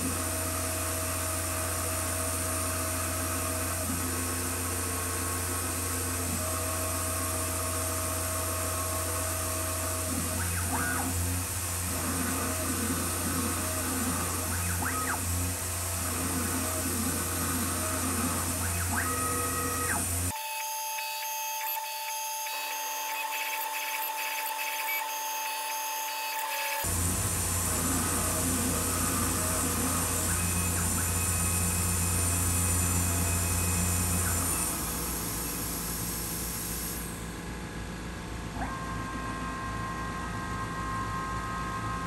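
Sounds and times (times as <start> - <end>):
mill spindle cutting metal: 0.0 - 37.3.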